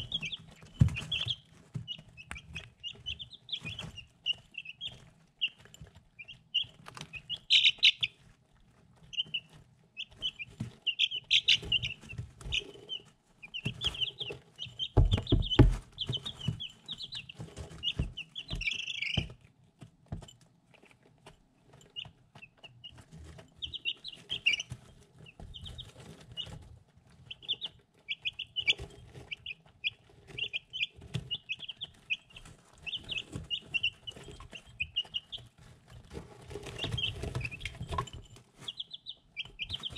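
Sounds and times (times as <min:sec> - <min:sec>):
chicks peeping: 0:00.0 - 0:39.9
pecking taps and rustling: 0:00.0 - 0:39.9.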